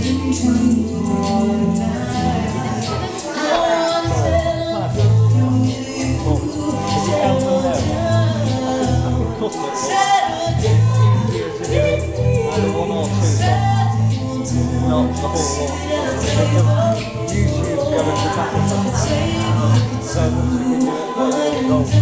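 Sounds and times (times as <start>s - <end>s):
lead singer singing: 0.0s - 22.0s.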